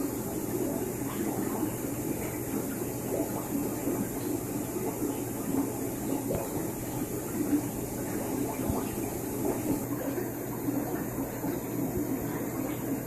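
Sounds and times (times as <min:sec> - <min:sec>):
bubbling and gurgling airlift filters: 0:00.0 - 0:13.0
low steady hum: 0:00.0 - 0:13.0.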